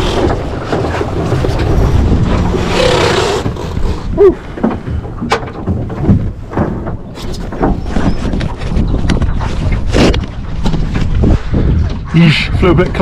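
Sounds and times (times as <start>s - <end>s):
water rushing along boat hull: 0.0s - 13.0s
wind buffeting microphone: 0.0s - 13.0s.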